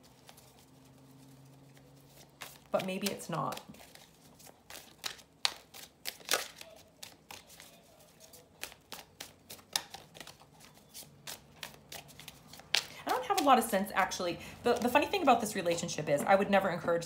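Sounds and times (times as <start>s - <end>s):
cards being shuffled: 0.0s - 15.5s.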